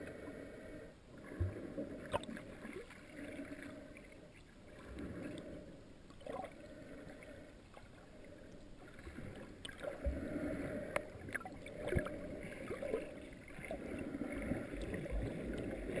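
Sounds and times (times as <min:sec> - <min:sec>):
muffled underwater water noise: 0:00.0 - 0:16.0.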